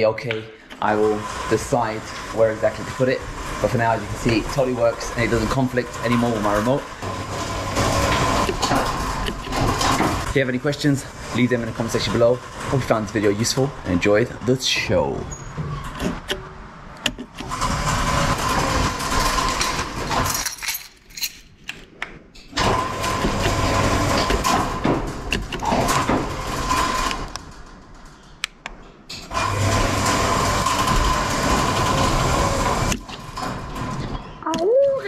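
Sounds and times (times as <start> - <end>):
garage door opener motor humming: 0.8 - 20.3, 22.5 - 28.4, 29.1 - 34.5.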